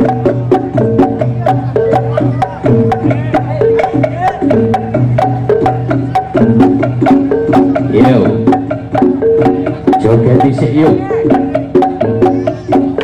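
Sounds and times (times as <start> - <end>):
gamelan music: 0.0 - 13.0
quick clicking beat: 0.0 - 13.0.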